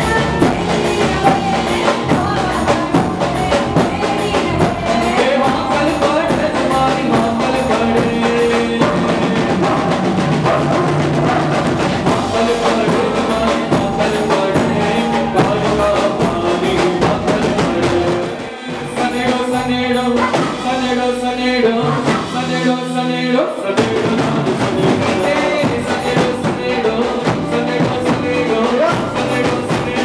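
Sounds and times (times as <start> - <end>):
fast drumming: 0.0 - 23.0, 23.7 - 30.0
bass guitar: 0.0 - 30.0.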